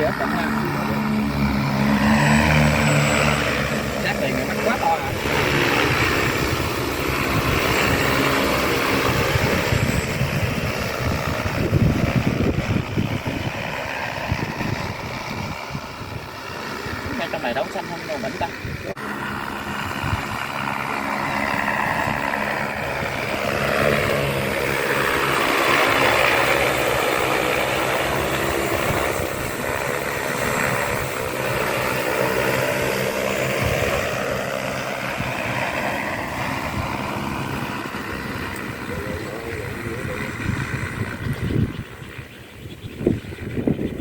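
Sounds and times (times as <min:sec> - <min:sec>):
drone rotors humming: 0:00.0 - 0:44.0.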